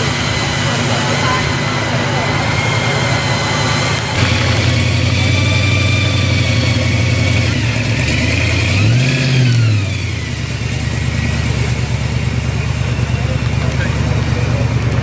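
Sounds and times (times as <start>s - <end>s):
car engine idling and revving: 0.0s - 15.0s
supercharger whine: 0.0s - 15.0s.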